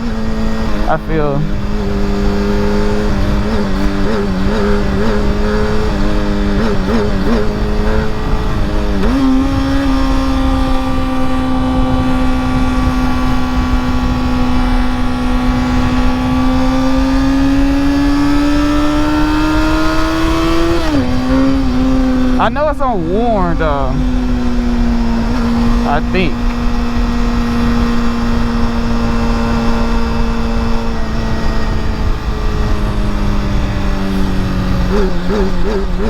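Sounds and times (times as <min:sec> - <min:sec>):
wind rumble on microphone: 0:00.0 - 0:23.1, 0:23.8 - 0:36.0
motorcycle engine running: 0:00.0 - 0:36.0.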